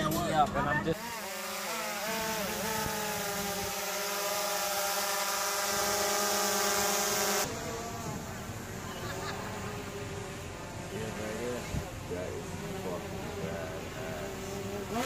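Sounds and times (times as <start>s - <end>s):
drone propellers buzzing: 1.0s - 15.0s.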